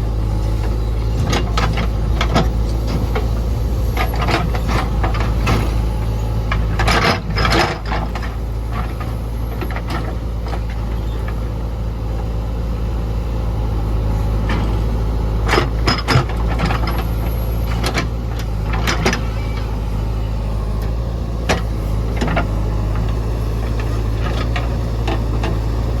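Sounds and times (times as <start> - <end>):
heavy diesel engine running: 0.0 - 26.0
machinery clanks and knocks: 0.5 - 11.4, 14.4 - 19.7, 20.8 - 26.0.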